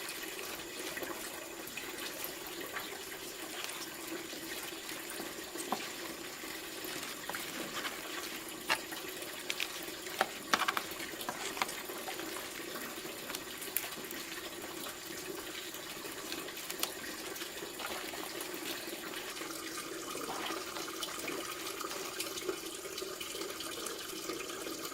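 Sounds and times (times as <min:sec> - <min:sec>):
running water: 0:00.0 - 0:24.9.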